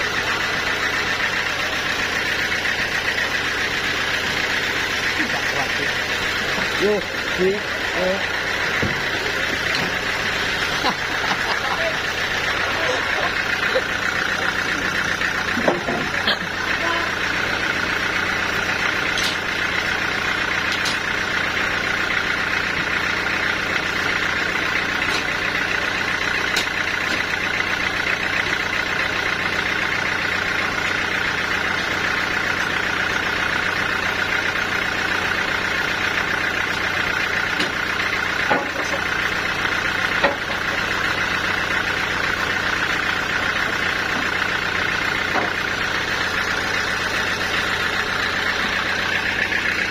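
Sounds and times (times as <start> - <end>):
sawmill machinery humming: 0.0 - 49.9.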